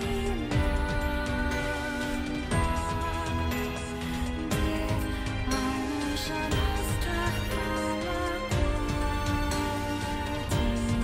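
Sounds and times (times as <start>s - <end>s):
background music chords: 0.0s - 11.0s.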